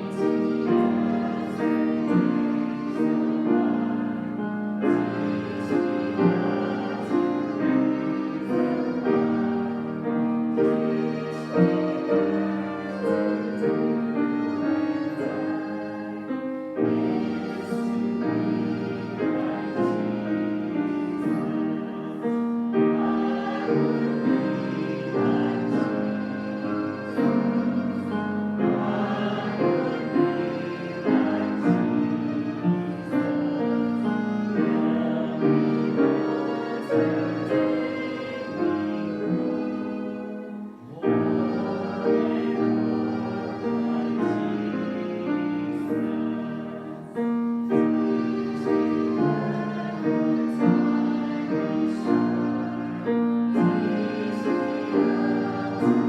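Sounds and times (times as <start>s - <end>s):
congregation singing a hymn: 0.0s - 56.0s
piano accompaniment: 0.0s - 56.0s.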